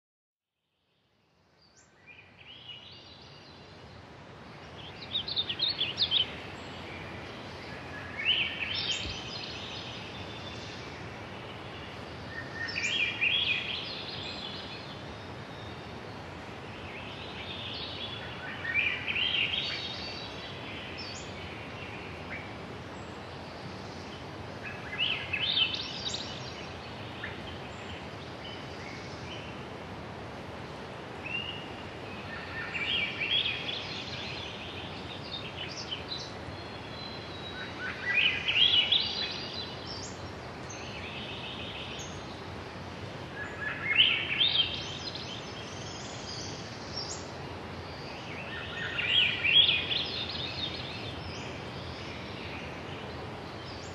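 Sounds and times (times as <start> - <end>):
outdoor background hiss: 0.6 - 53.9
songbird singing: 0.6 - 53.9.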